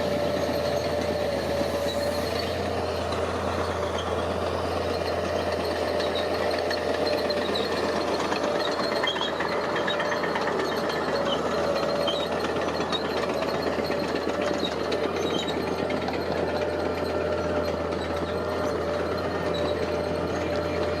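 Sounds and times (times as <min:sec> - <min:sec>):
diesel machinery engine clattering: 0:00.0 - 0:21.0.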